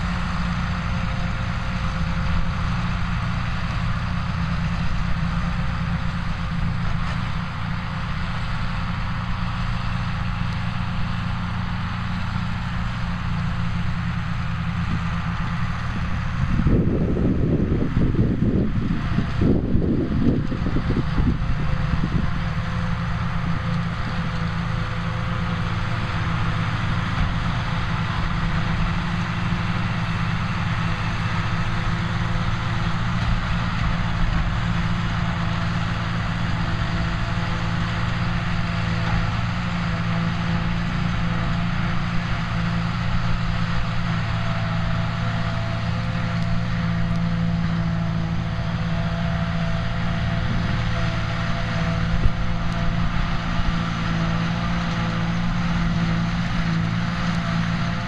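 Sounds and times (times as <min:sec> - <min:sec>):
forage harvester running: 0:00.0 - 0:58.0
tractor diesel engine drone: 0:00.0 - 0:58.0.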